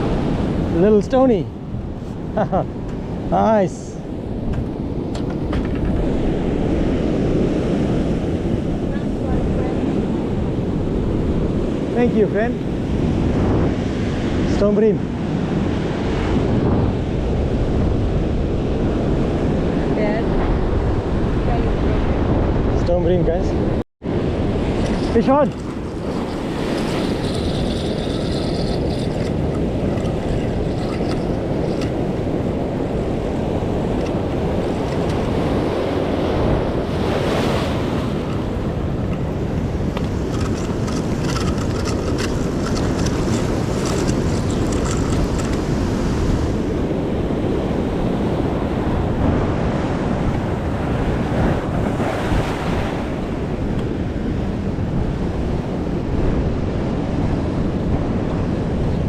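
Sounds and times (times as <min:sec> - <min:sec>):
sea surf on rocks: 0:00.0 - 0:59.0
wind buffeting microphone: 0:00.0 - 0:59.0.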